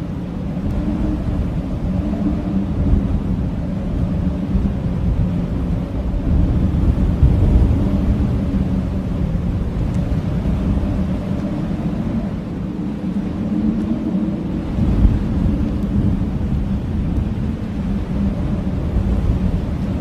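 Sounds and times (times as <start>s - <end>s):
howling blizzard wind: 0.0s - 20.0s.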